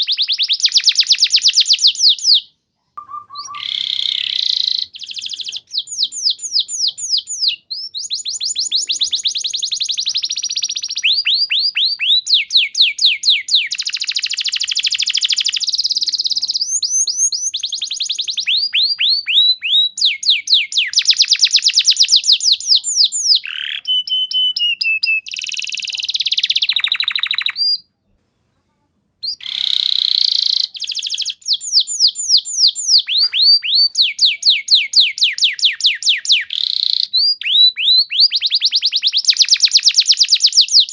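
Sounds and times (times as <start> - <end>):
canary singing trills: 0.0 - 27.9, 29.2 - 40.9.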